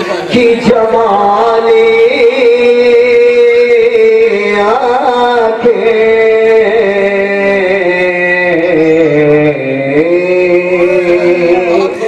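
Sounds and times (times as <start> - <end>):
man singing devotional song: 0.0 - 12.0.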